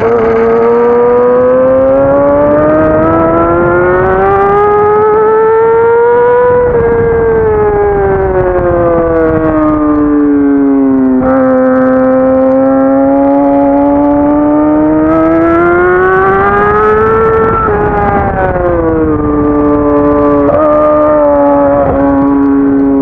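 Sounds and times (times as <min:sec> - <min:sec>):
motorcycle engine revving: 0:00.0 - 0:23.0
wind rush on microphone: 0:00.0 - 0:23.0.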